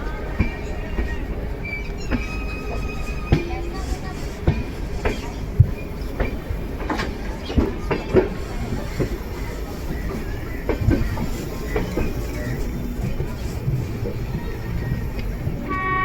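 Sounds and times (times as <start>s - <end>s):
clanking wheels and couplings: 0.0s - 15.7s
train rumbling: 0.0s - 16.0s.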